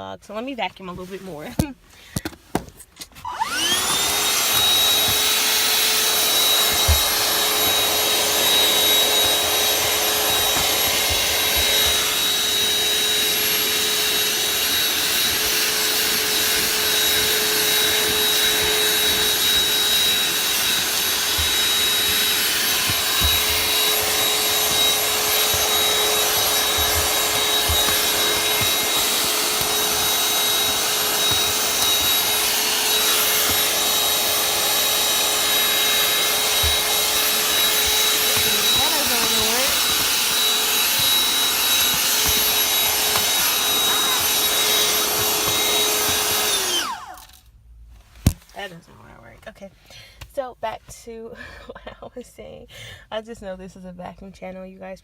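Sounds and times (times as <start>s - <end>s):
vacuum cleaner whine: 3.2s - 47.5s.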